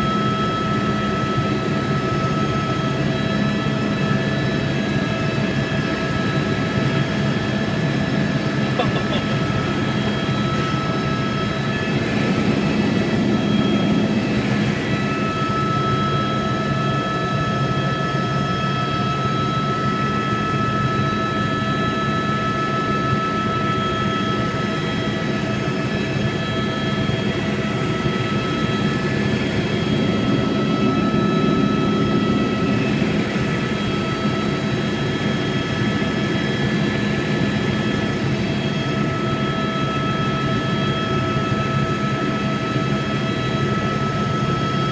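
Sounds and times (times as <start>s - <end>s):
helicopter engine and rotors droning: 0.0s - 44.9s.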